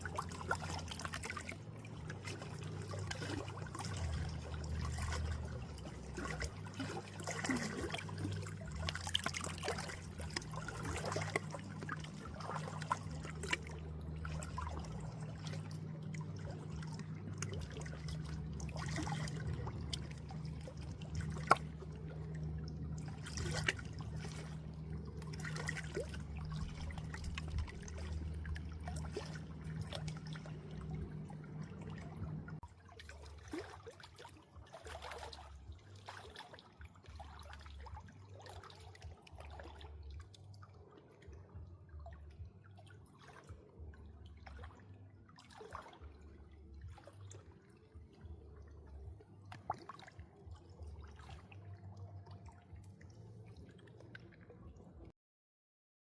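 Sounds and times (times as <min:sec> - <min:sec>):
steady low hum: 0:00.0 - 0:55.1
water drips and splashes: 0:00.0 - 0:55.1
water trickling: 0:00.0 - 0:55.1.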